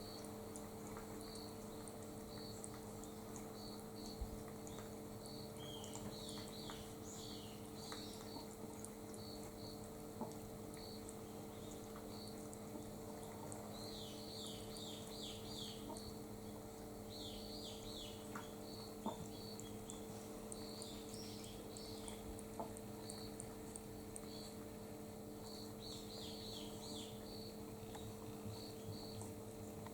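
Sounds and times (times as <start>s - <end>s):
small birds chirping: 0.0s - 29.4s
steady low hum: 0.0s - 29.9s.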